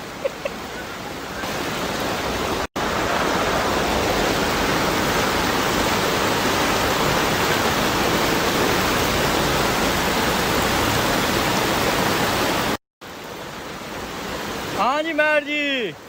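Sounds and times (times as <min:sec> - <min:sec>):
torrential rain on a street: 0:00.0 - 0:16.0.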